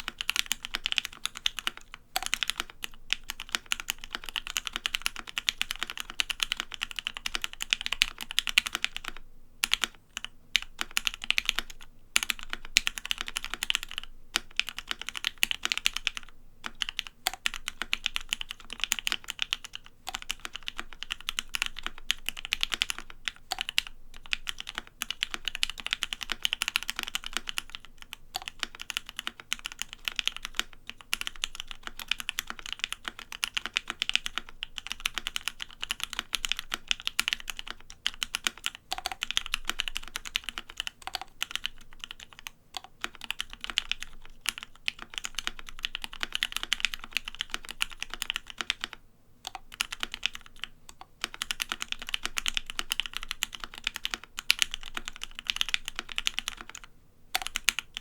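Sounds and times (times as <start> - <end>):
fast typing on mechanical keyboard: 0.0 - 58.0.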